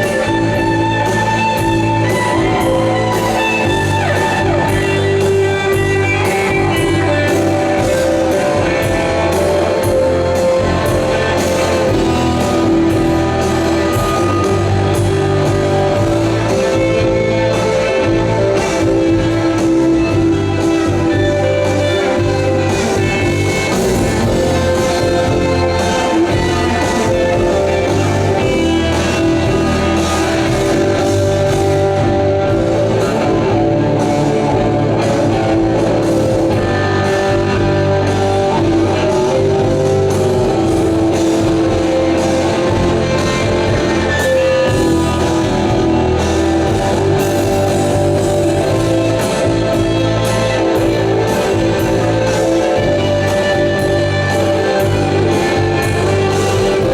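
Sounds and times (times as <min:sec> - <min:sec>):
bass guitar: 0:00.0 - 0:56.9
drums: 0:00.0 - 0:56.9
electric guitars sustained notes: 0:00.0 - 0:56.9.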